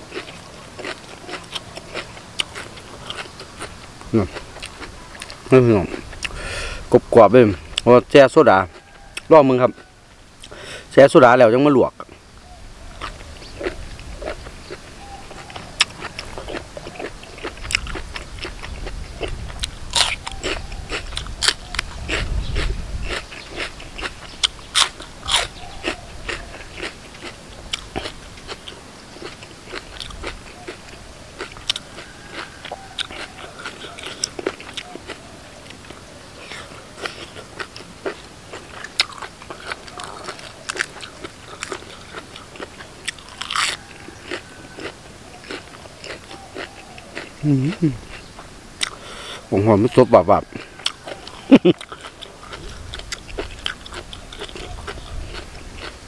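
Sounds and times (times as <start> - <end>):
person chewing crunchy food: 0.0 - 10.9, 11.9 - 56.0.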